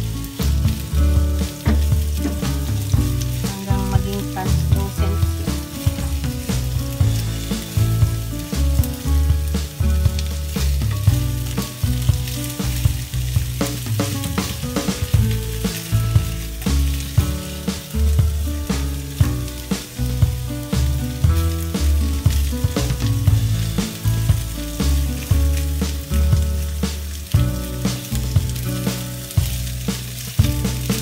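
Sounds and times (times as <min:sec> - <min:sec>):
music with loud bass: 0:00.0 - 0:31.0
onion rings sizzling in oil: 0:00.0 - 0:31.0.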